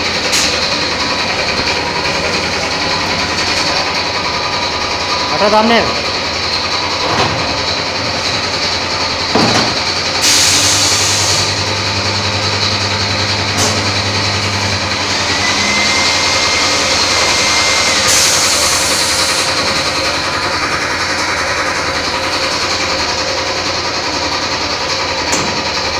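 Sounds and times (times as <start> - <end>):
machine running steadily: 0.0 - 25.9.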